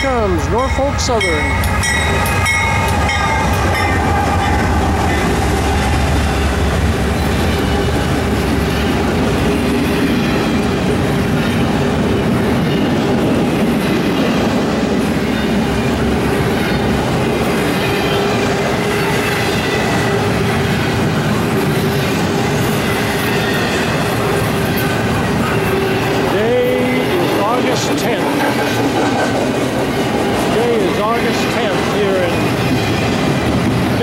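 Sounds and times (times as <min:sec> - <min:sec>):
diesel locomotive rumble: 0:00.0 - 0:34.0
freight cars clattering on rails: 0:00.0 - 0:34.0.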